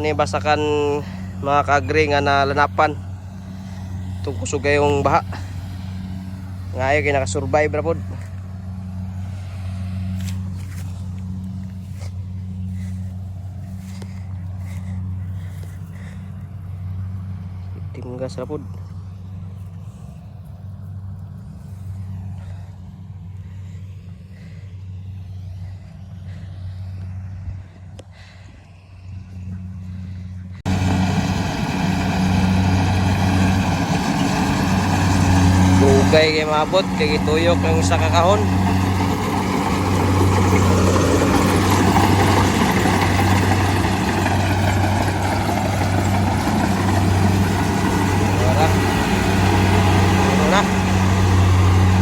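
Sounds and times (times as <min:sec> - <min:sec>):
harvester engine droning: 0:00.0 - 0:52.0.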